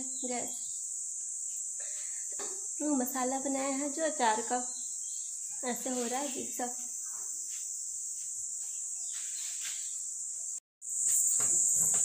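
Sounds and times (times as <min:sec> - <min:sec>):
insects droning buzz: 0:00.0 - 0:12.0.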